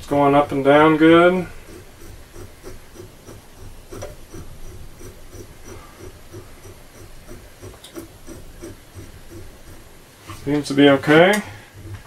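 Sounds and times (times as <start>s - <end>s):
soft ticks of hand-cranked screw: 1.0s - 12.0s.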